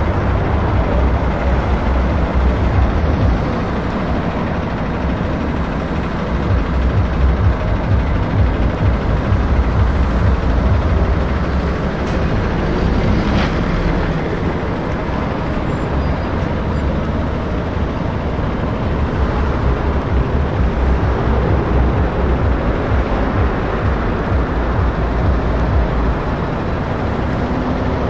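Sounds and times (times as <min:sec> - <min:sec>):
diesel truck engine rumbling: 0:00.0 - 0:28.0.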